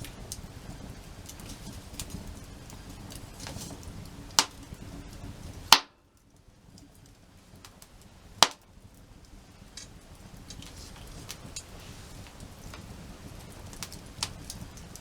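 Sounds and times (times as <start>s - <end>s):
sharp fire cracks: 0.0s - 15.0s
wood fire crackling: 0.0s - 15.0s.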